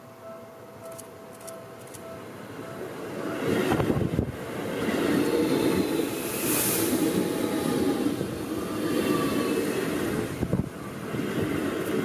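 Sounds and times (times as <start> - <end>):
faint train whine: 0.0 - 12.0
train wheels rumbling on rails: 0.9 - 12.0.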